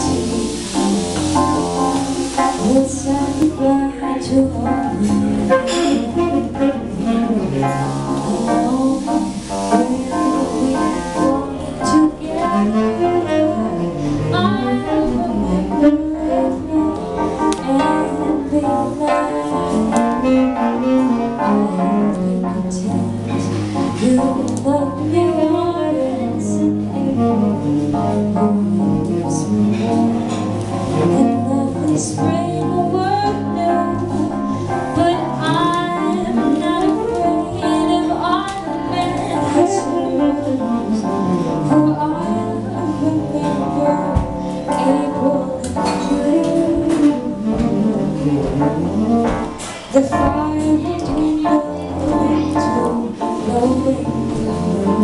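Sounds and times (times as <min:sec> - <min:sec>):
saxophone: 0:00.0 - 0:55.0
woman singing jazz: 0:00.0 - 0:55.0.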